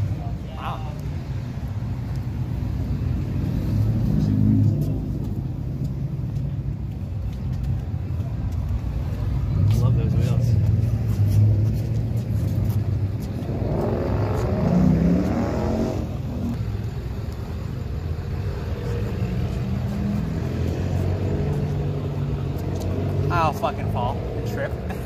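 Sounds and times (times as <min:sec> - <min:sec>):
car engines humming: 0:00.0 - 0:25.0.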